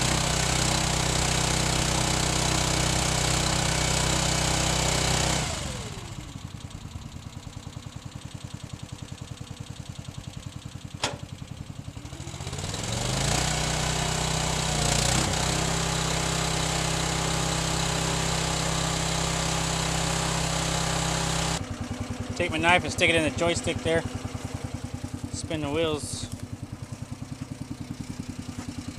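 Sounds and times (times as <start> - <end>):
engine idling and revving: 0.0 - 28.9.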